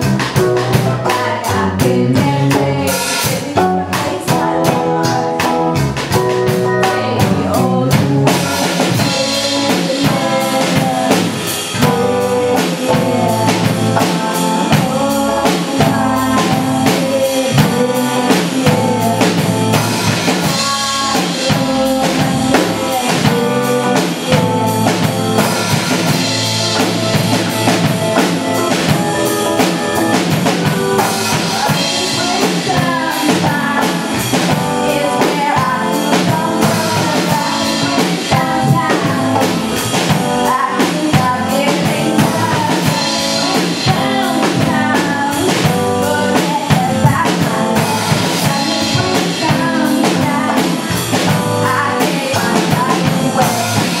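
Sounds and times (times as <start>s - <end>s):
person singing: 0.0s - 54.0s
rock band playing: 0.0s - 54.0s.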